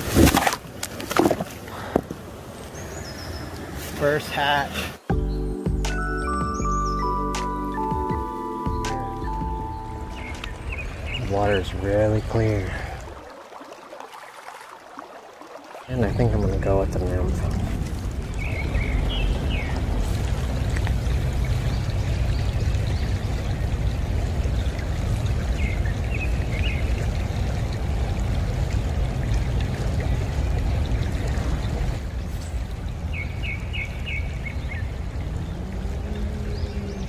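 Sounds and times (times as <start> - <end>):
creek rippling over cobbles: 0.0 - 5.0, 10.0 - 37.0.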